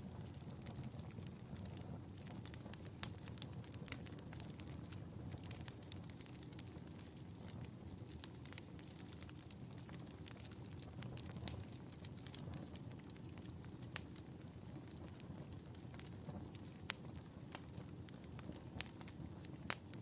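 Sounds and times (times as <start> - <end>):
wood fire crackling: 0.0 - 20.0
fire pops: 0.1 - 20.0.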